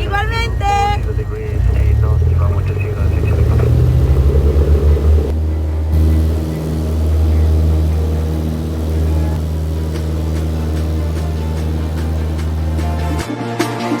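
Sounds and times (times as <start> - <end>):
aircraft piston engine droning: 0.0 - 13.3.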